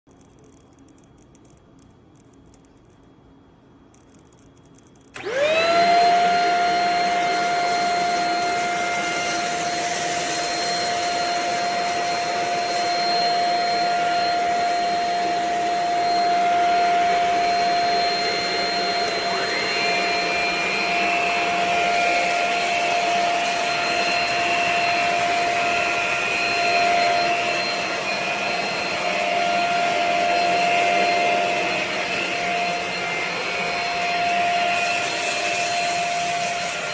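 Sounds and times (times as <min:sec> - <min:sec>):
stick vacuum motor whine: 0:04.9 - 0:36.9.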